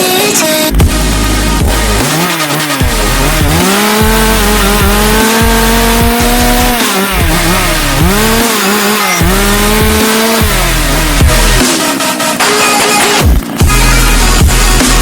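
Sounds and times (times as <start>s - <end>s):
chainsaw running at full throttle: 0.1s - 15.0s.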